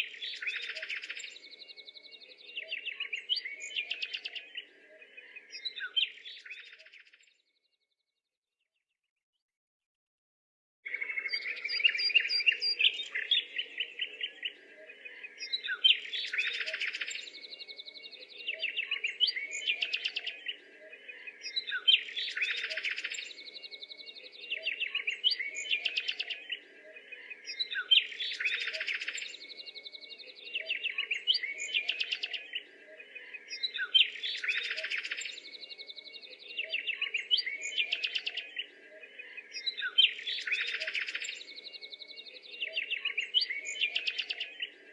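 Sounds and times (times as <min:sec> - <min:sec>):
birds chirping and trilling: 0:00.0 - 0:07.5, 0:10.9 - 0:44.9.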